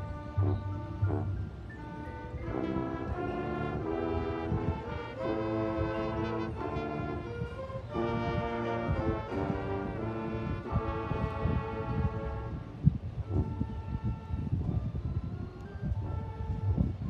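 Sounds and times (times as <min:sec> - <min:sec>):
brass section playing chords: 0:00.0 - 0:14.5.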